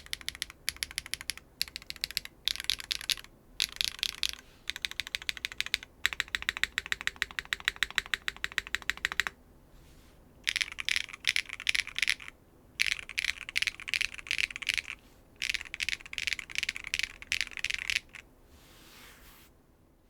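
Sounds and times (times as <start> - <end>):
mechanical keyboard typing: 0.0 - 9.4, 10.5 - 18.2.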